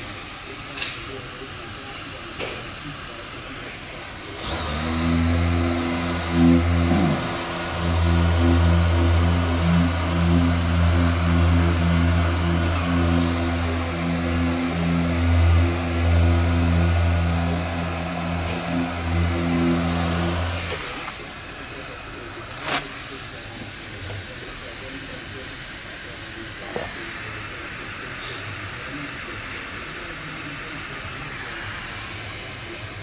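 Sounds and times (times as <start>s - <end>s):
faint high whine: 0.0s - 33.0s
machine motor pulsing hum: 0.0s - 33.0s.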